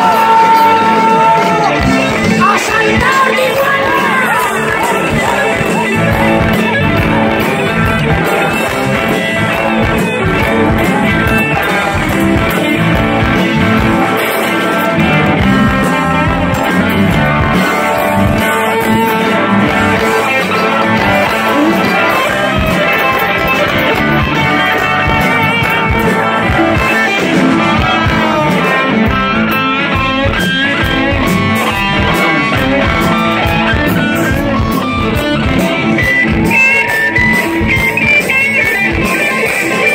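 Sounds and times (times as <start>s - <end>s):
blues-rock band playing: 0.0s - 39.9s
electric guitar lead: 0.0s - 39.9s.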